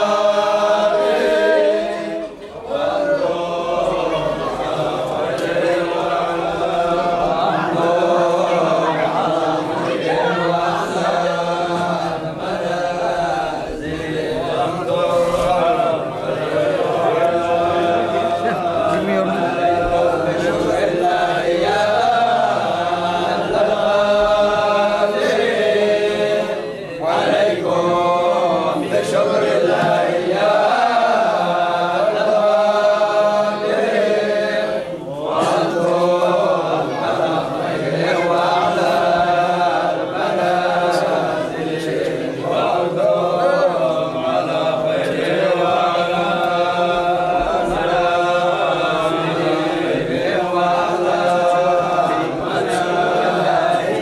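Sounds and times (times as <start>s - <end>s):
men chanting together: 0.0s - 54.0s.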